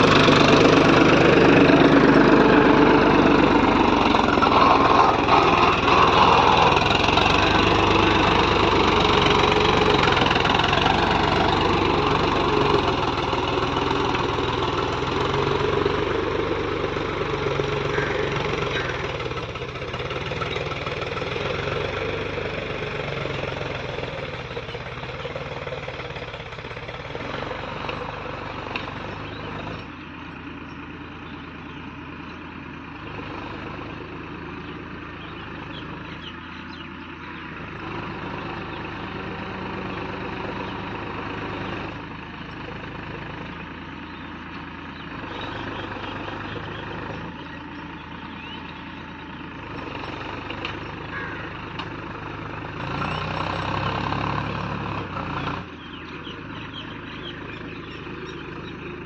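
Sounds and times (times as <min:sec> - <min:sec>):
tractor engine under load: 0:00.0 - 0:59.0.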